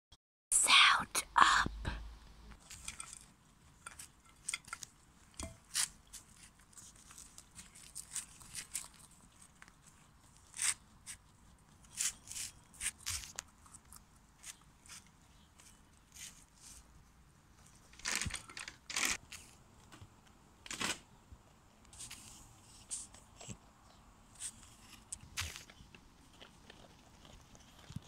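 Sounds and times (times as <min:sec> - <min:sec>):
rabbit chewing crunchy food: 0:02.6 - 0:20.3, 0:21.7 - 0:28.0.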